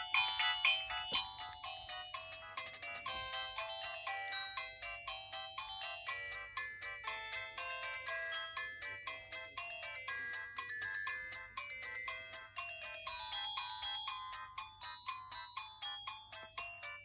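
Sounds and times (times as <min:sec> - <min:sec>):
mobile phone ringtone melody: 0:00.0 - 0:17.0.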